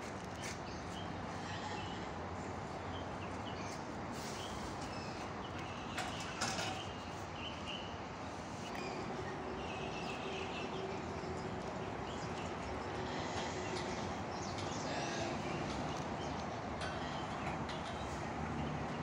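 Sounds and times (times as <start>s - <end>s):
goats moving and feeding: 0.0s - 19.0s
steady background noise: 0.0s - 19.0s.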